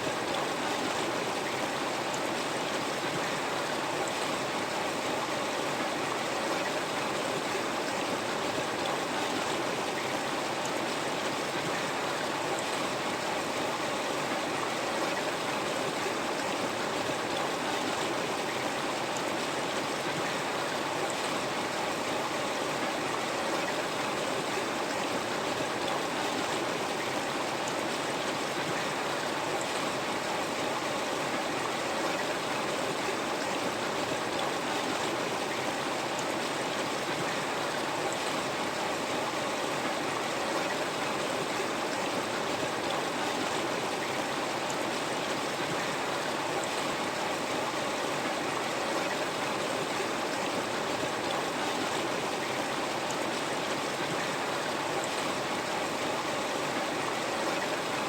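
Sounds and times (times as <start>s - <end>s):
river water rushing and babbling: 0.0s - 58.0s.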